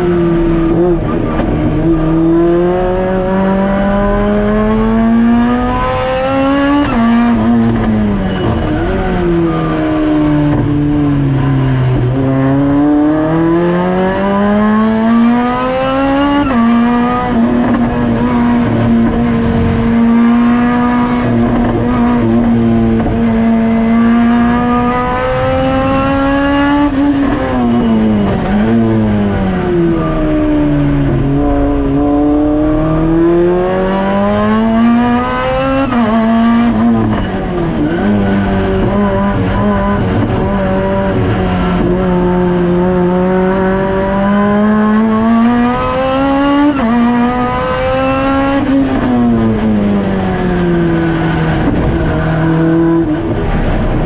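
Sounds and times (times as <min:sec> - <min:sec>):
car engine revving and shifting: 0:00.0 - 0:54.0.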